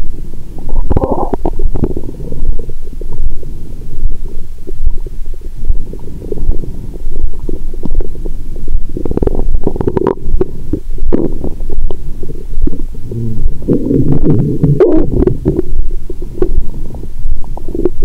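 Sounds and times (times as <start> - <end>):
stomach gurgling and rumbling: 0.0 - 18.0.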